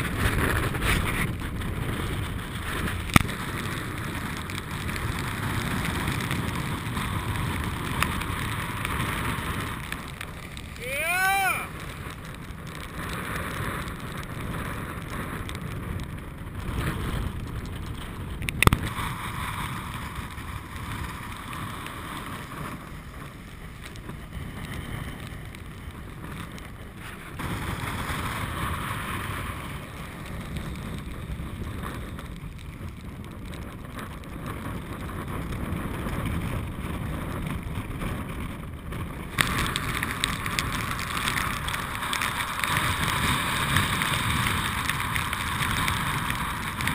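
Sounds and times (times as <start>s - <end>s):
choppy water splashing: 0.0s - 46.9s
wind on microphone: 0.0s - 46.9s.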